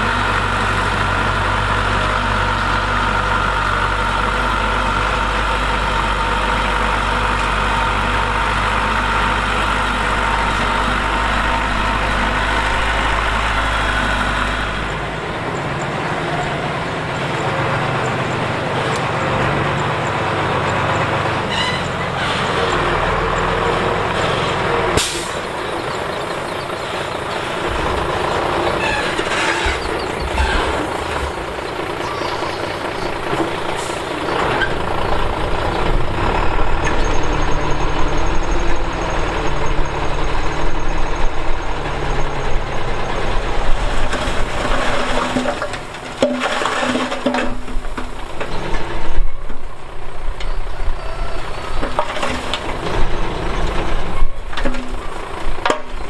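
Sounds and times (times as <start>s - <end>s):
heavy diesel machinery engines: 0.0s - 56.0s.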